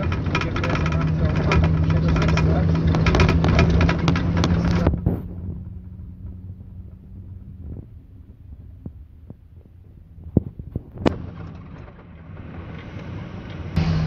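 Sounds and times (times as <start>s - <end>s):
car driving rumble and hum: 0.0s - 14.0s.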